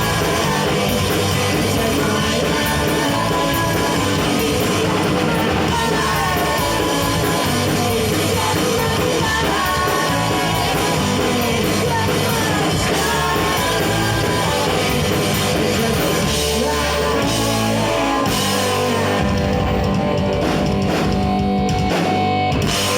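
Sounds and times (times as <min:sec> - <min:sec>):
person singing: 0:00.0 - 0:22.1
drums: 0:00.0 - 0:22.9
electric guitars: 0:00.0 - 0:22.9.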